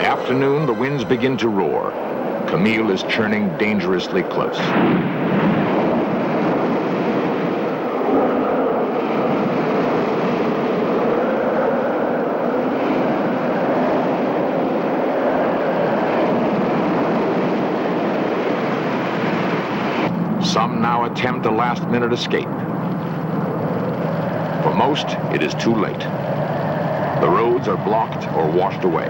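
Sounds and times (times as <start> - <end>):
strong wind roaring: 0.0 - 29.0.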